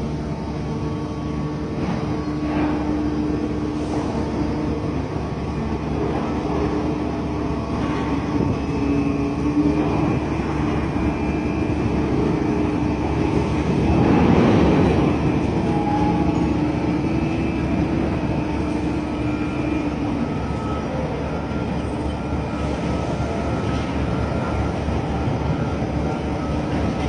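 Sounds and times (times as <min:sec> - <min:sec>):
cargo machinery rumbling: 0:00.0 - 0:27.0.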